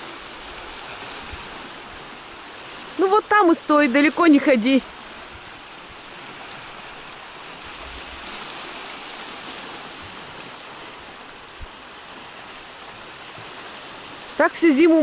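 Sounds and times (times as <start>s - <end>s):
surf washing onto stony beach: 0.0s - 15.0s.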